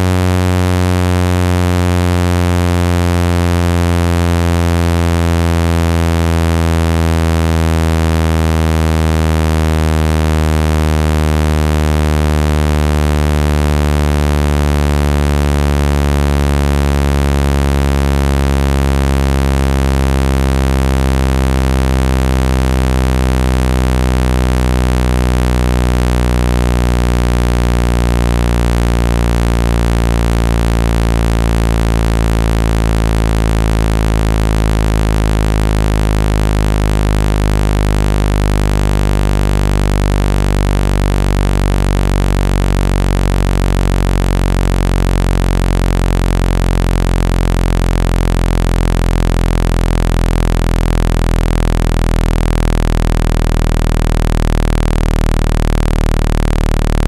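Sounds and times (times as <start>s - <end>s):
synthesized low buzzing tone: 0.0s - 57.0s.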